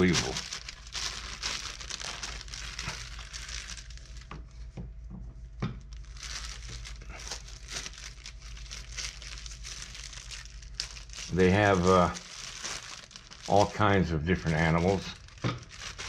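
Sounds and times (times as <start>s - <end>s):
plastic bag crinkling: 0.0s - 4.4s, 5.8s - 16.0s.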